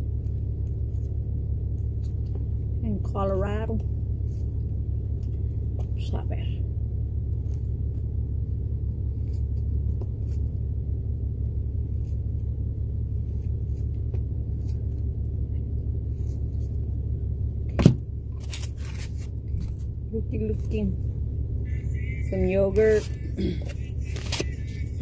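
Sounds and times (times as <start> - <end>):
diesel truck engine rumble: 0.0 - 25.0.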